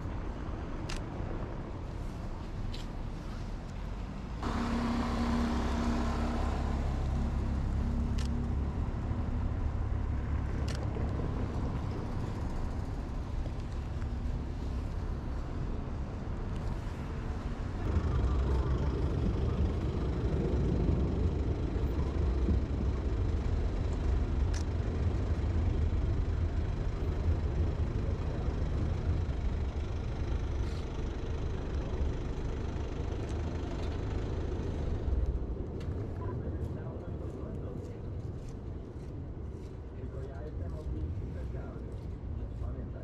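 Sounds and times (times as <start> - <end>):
rumble of vehicle engines: 0.0 - 43.0.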